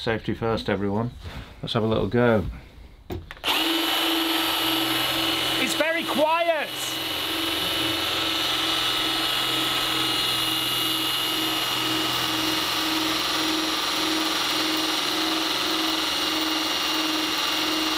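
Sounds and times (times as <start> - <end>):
cordless drill boring into metal: 3.4 - 17.9.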